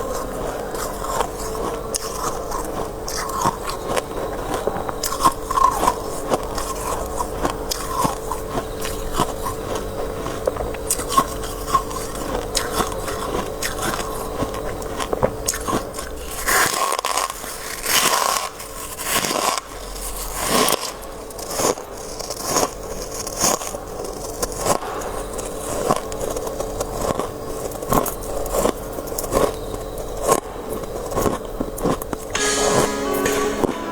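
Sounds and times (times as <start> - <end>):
crunching and chewing frost: 0.0 - 32.4.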